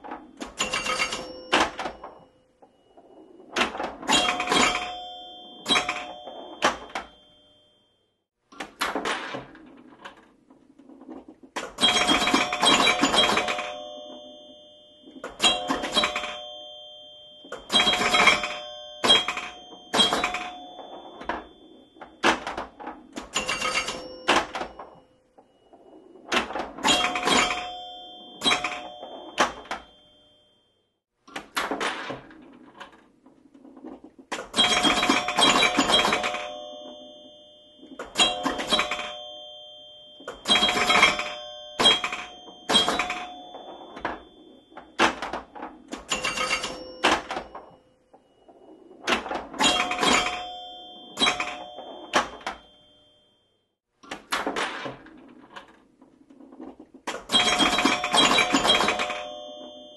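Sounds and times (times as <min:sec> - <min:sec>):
pinball mechanical knocks and clicks: 0:00.0 - 0:07.6, 0:08.5 - 0:30.5, 0:31.2 - 0:53.2, 0:54.0 - 0:59.9
pinball bells ringing: 0:00.0 - 0:08.2, 0:10.8 - 0:30.9, 0:31.9 - 0:53.7, 0:54.6 - 0:59.9.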